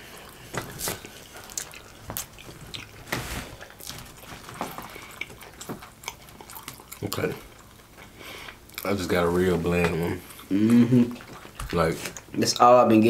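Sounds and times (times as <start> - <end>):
chewing and lip smacks: 0.0 - 12.7.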